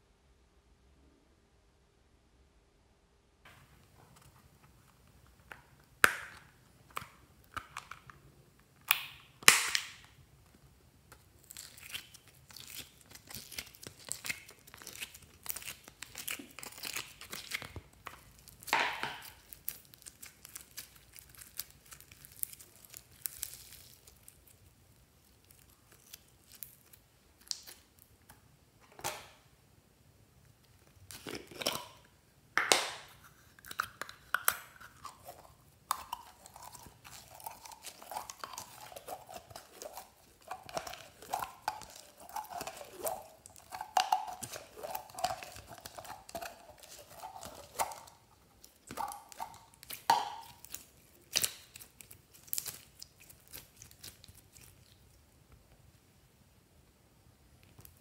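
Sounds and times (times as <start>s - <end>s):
slime squelching and popping: 5.0s - 28.4s, 30.7s - 55.2s.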